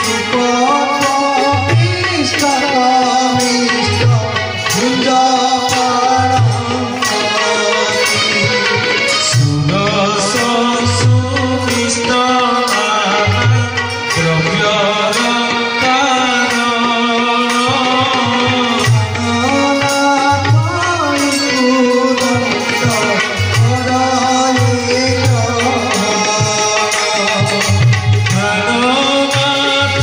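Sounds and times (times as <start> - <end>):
devotional music melody: 0.0 - 30.0.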